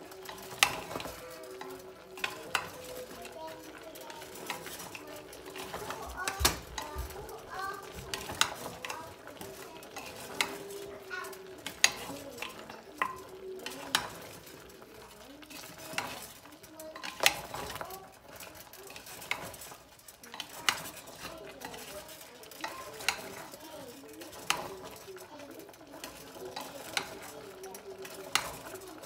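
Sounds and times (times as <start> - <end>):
meat sizzling: 0.0 - 29.0.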